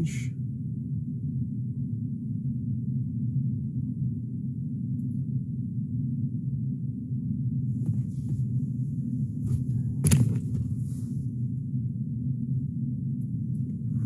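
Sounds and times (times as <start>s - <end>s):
low hum in car cabin: 0.0s - 14.0s.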